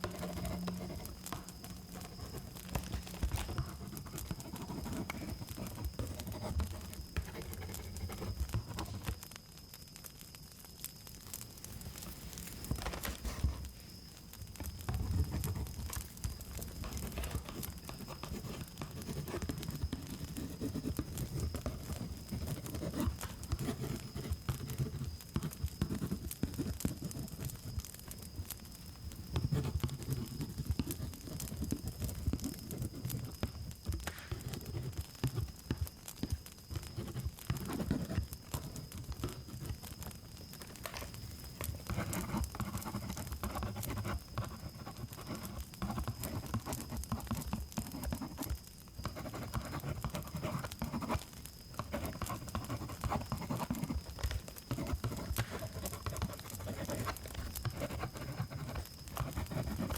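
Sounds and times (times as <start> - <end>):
rustling and scratching on microphone: 0.0 - 9.2, 11.3 - 59.9
crickets chirping: 0.0 - 59.9.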